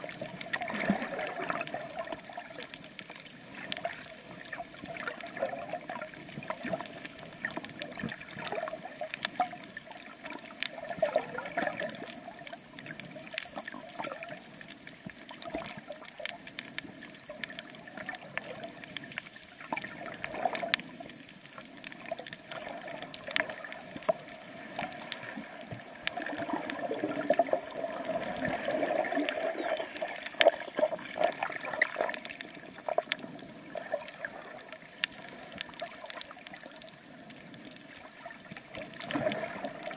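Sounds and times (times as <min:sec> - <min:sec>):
small clicks underwater: 0:00.0 - 0:39.9
water gurgling and sloshing: 0:00.0 - 0:39.9.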